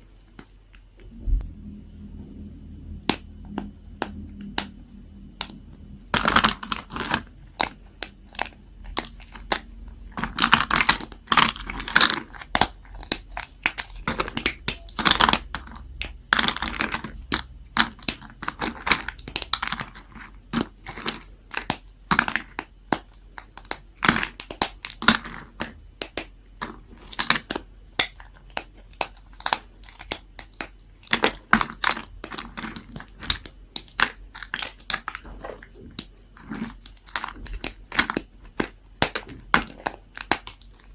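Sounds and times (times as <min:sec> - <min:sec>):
blade cracking dry soap: 0:05.4 - 0:40.9.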